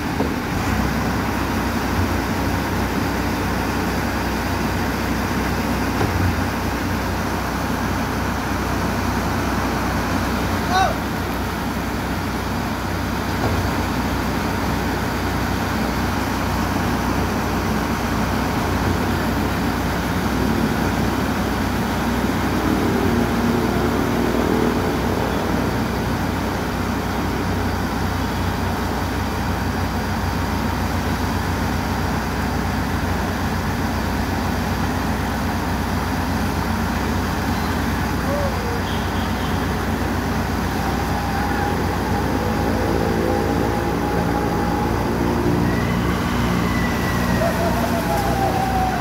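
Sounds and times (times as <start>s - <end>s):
heavy diesel machinery running: 0.0s - 49.0s.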